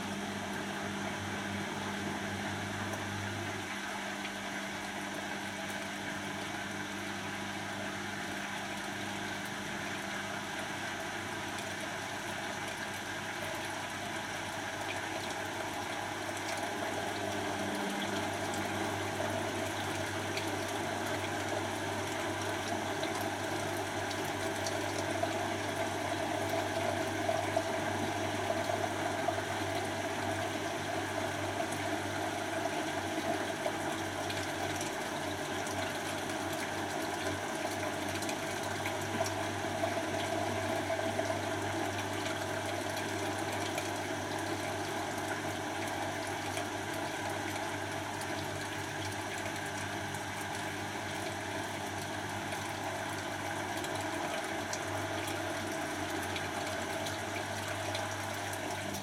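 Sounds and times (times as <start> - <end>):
motor hum: 0.0 - 59.0.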